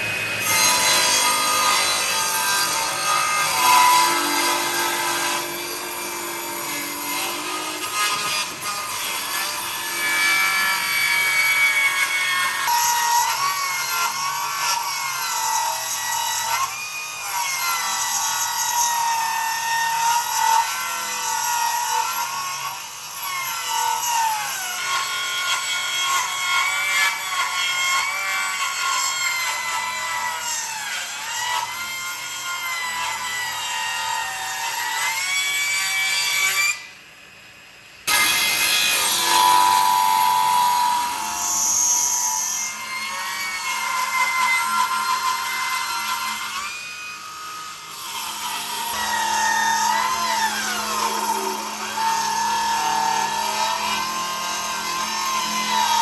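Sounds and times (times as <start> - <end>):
power tool cutting wood: 0.0 - 56.0.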